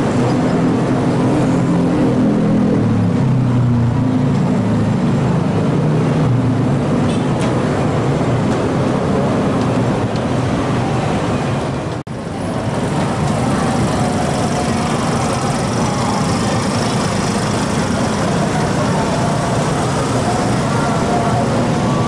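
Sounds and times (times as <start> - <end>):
motorcycle and scooter traffic: 0.0 - 22.0.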